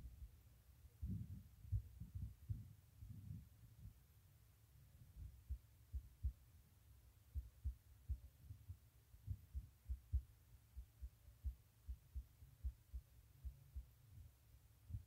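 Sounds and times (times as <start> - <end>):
faint dull low thumps: 0.0 - 4.1, 5.0 - 6.6, 7.3 - 15.0.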